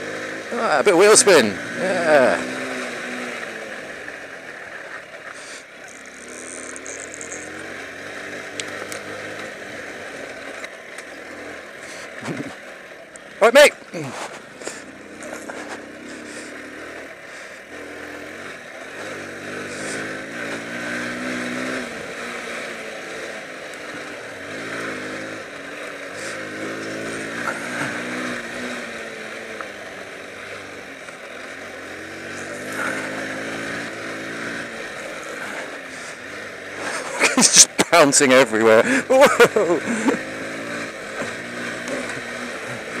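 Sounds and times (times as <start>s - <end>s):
motorbike engine revving: 0.0s - 43.0s.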